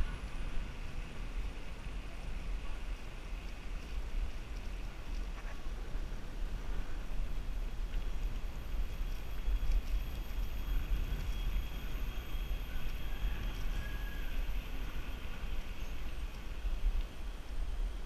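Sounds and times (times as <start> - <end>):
bicycle tyre rumble: 0.0 - 18.0.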